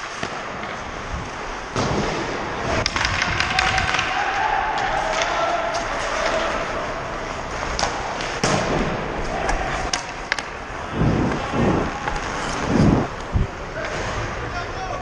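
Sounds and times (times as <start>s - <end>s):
skates scraping on ice: 0.0s - 14.8s
hockey sticks and puck clacking: 0.0s - 14.9s.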